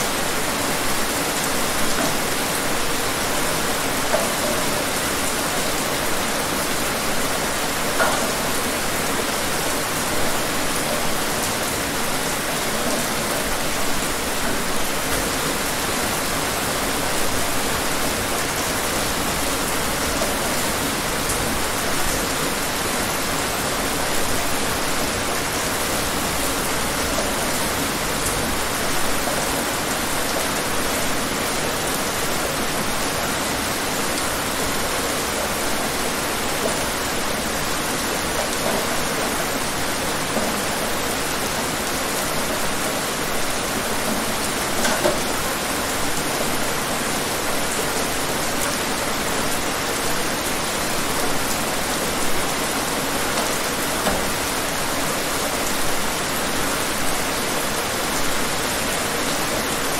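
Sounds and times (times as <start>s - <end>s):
raindrops splashing: 0.0s - 59.9s
steady rain falling: 0.0s - 59.9s.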